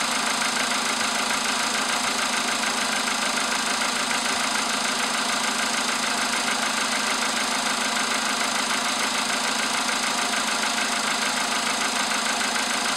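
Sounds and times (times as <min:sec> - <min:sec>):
car engine idling with knock: 0:00.0 - 0:12.9.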